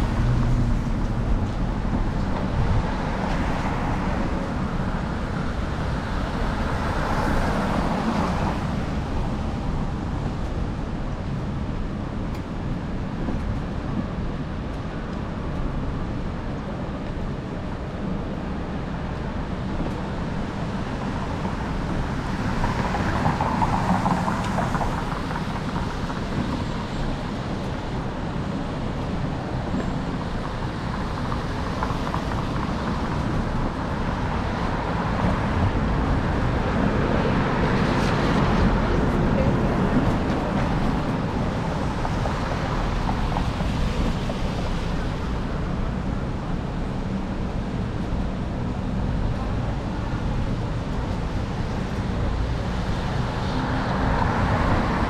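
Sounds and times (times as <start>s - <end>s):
traffic on wet roads: 0.0s - 55.0s.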